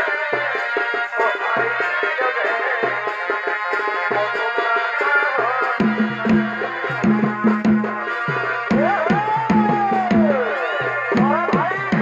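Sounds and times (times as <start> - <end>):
drums beating fast rhythm: 0.0 - 12.0
wind instrument melody: 0.0 - 12.0.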